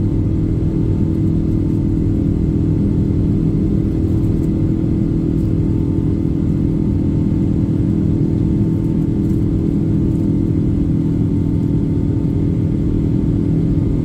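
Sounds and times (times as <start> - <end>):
airplane engine drone: 0.0 - 14.0.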